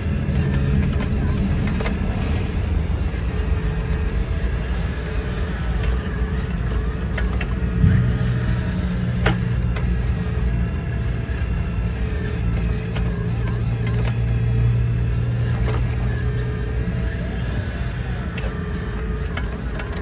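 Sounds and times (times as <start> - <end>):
excavator hydraulic pump humming: 0.0 - 20.0.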